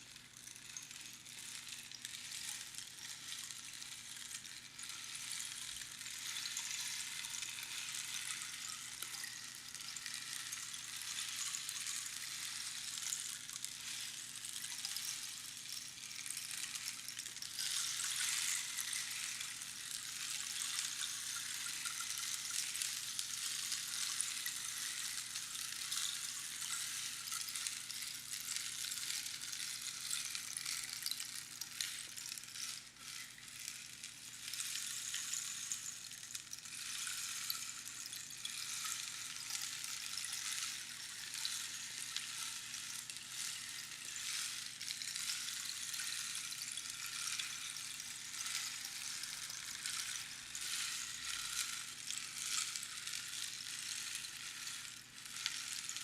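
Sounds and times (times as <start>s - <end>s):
rainstick pebbles trickling: 0.0s - 56.0s.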